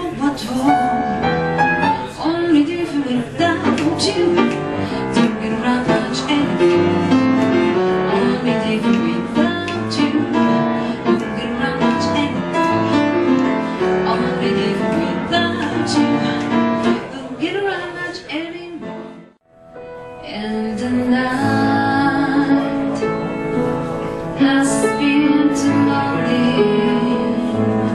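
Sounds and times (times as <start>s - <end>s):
piano playing: 0.0s - 18.0s, 18.6s - 27.9s.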